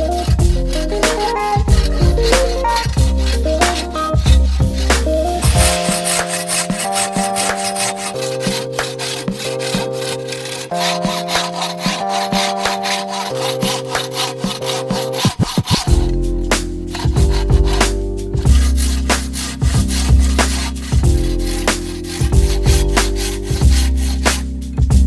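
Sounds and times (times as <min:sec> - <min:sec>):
hand saw cutting wood: 0:00.0 - 0:24.5
background music: 0:00.0 - 0:25.0.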